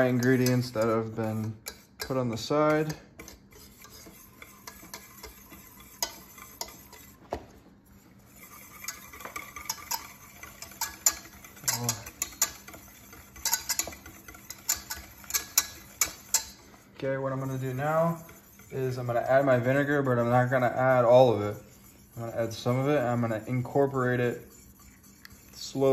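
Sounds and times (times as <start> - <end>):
whisk clicking against metal pan: 0.0 - 7.2, 8.3 - 25.9.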